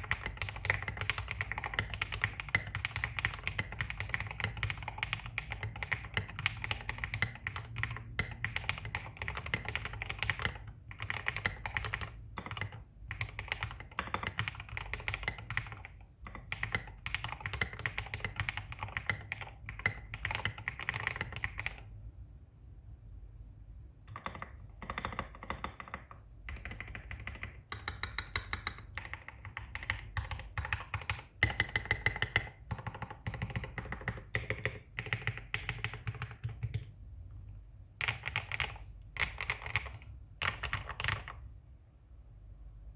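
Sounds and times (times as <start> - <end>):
mechanical keyboard typing: 0.0 - 21.9, 24.1 - 37.0, 38.0 - 41.4.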